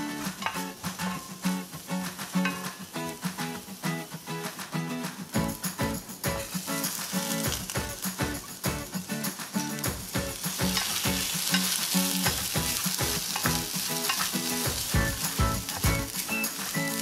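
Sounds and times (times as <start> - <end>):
rice sizzling in hot oil: 0.0 - 4.7, 5.3 - 17.0
background music with steady beat: 0.0 - 17.0.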